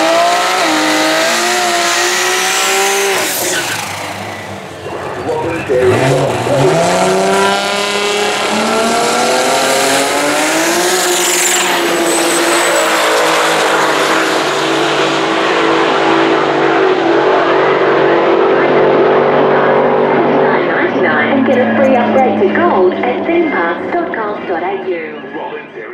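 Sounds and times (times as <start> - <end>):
drag car engines accelerating: 0.0 - 25.9.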